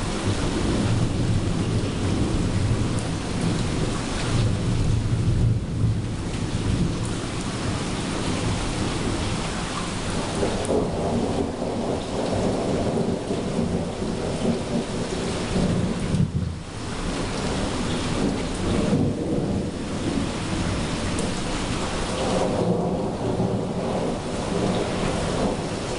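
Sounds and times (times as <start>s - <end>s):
steady rain falling: 0.0s - 25.9s
thunder rumbling: 0.0s - 25.9s.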